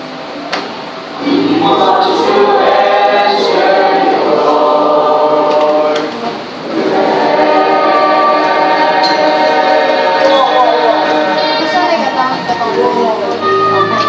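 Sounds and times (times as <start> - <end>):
mixed choir singing held chords: 1.1 - 14.0.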